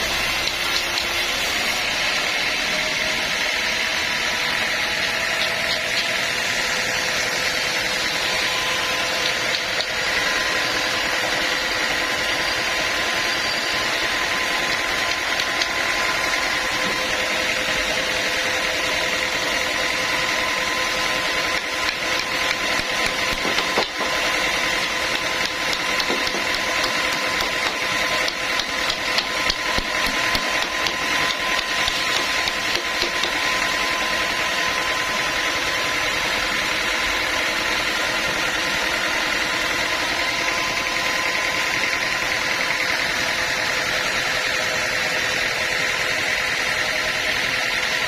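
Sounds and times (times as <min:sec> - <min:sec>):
sawmill machinery whining: 0:00.0 - 0:48.0.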